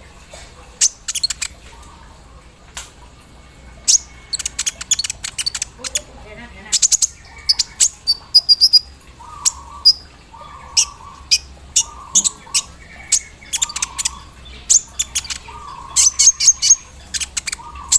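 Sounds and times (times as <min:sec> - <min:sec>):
sunbird singing: 0:00.8 - 0:02.2, 0:03.8 - 0:17.9.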